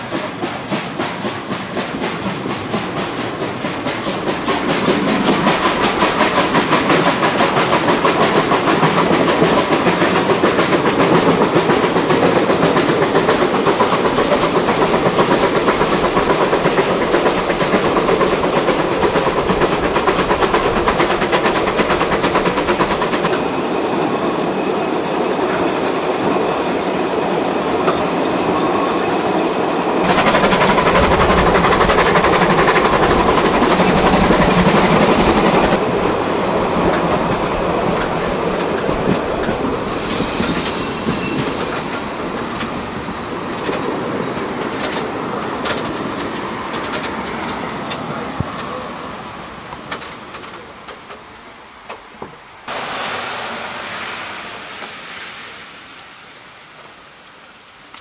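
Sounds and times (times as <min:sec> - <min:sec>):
train running on track: 0:00.0 - 0:58.0.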